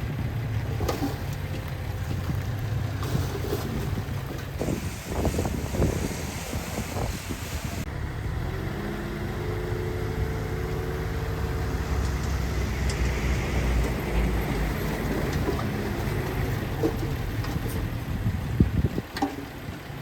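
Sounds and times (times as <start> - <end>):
engine knocks: 0.0 - 7.9, 10.3 - 20.0
faint engine whine: 0.0 - 20.0
heavy machinery diesel engine: 0.0 - 20.0.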